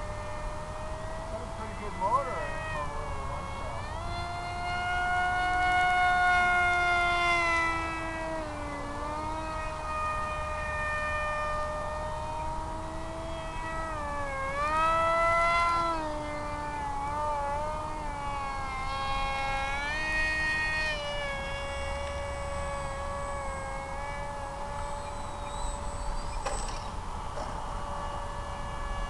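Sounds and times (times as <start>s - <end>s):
electric motor and propeller whine: 0.0s - 29.0s.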